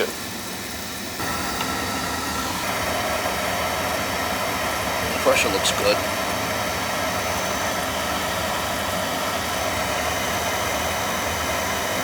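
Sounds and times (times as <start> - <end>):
boiler burner rushing hum: 0.0 - 12.0.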